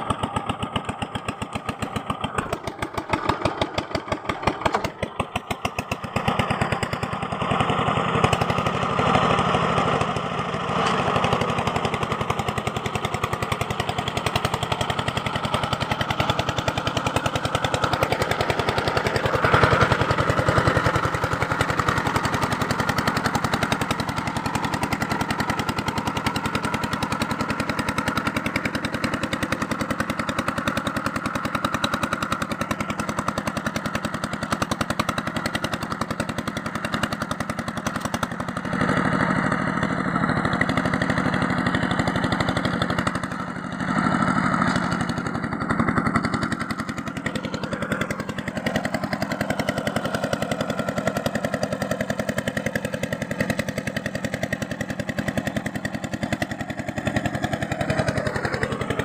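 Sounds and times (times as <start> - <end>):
small engine chugging: 0.0 - 59.0.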